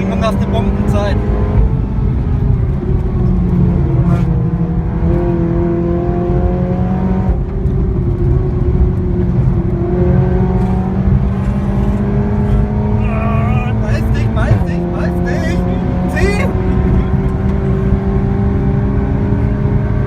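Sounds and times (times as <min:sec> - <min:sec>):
car engine with loud exhaust: 0:00.0 - 0:20.0.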